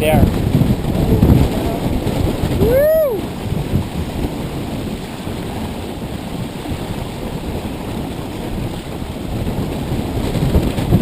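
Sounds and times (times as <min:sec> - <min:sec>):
low rumble: 0:00.0 - 0:09.3
water rushing along hull: 0:00.0 - 0:11.0
wind buffeting microphone: 0:00.0 - 0:11.0.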